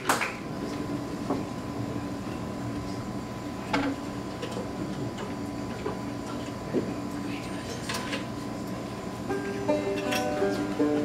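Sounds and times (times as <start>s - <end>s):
steady low hum: 0.3s - 11.0s.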